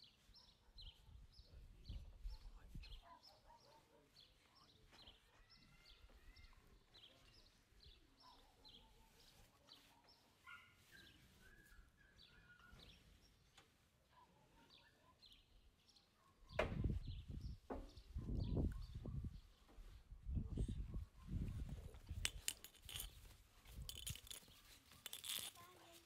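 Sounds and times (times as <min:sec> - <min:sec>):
faint birdsong chirps: 0:00.0 - 0:26.0.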